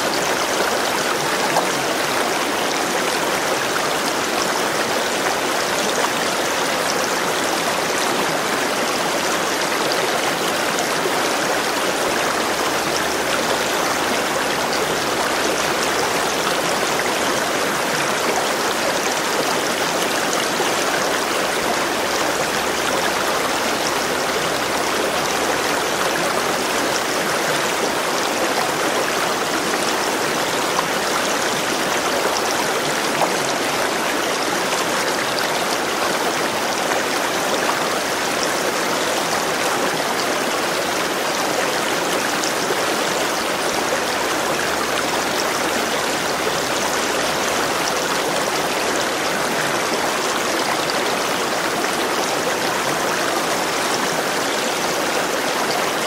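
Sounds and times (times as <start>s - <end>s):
shallow stream flowing: 0.0s - 56.0s.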